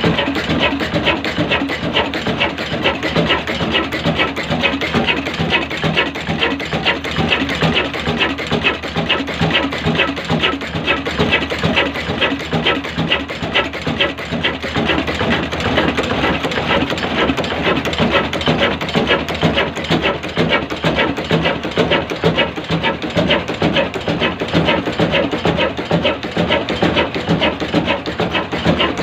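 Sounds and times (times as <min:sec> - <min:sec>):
oil engine clattering: 0:00.0 - 0:29.0.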